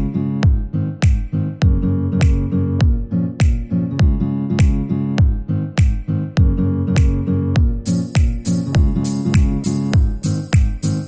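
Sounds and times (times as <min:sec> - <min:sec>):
deep kick drum beat: 0:00.0 - 0:11.0
plucked guitar: 0:00.0 - 0:11.0
upbeat background music: 0:00.0 - 0:11.0.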